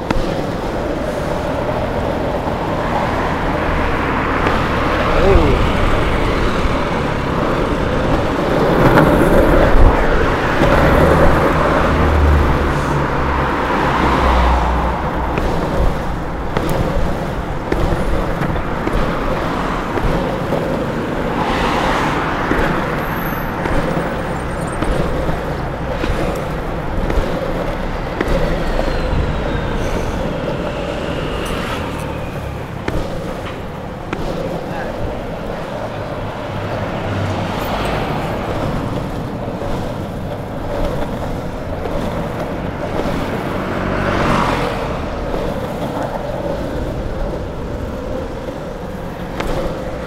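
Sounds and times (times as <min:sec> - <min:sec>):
longboard wheels rolling on asphalt: 0:00.0 - 0:50.0
road traffic: 0:00.0 - 0:50.0
vehicle engine rumble: 0:00.0 - 0:50.0.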